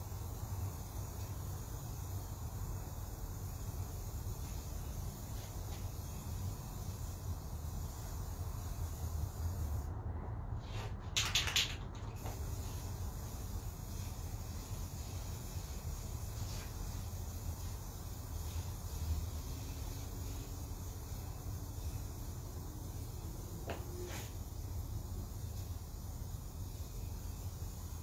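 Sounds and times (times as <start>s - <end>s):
aerosol spray hiss: 0.0s - 9.9s, 10.6s - 28.0s.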